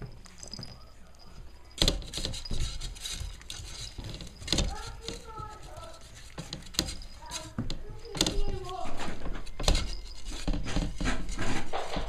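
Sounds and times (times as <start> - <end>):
puppies scuffling and scrabbling: 0.0 - 12.0.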